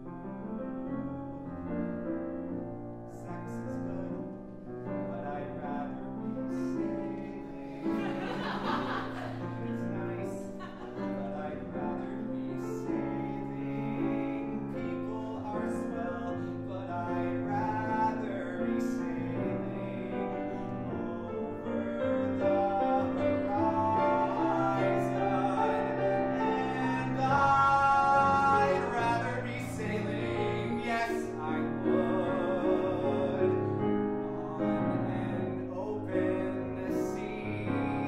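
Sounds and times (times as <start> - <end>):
grand piano accompaniment: 0.0 - 38.0
man singing: 3.1 - 38.0.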